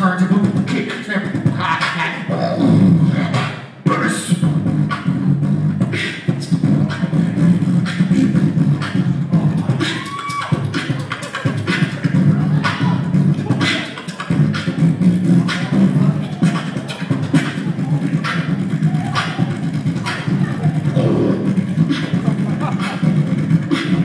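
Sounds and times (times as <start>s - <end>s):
beatboxing into microphone: 0.0s - 24.0s.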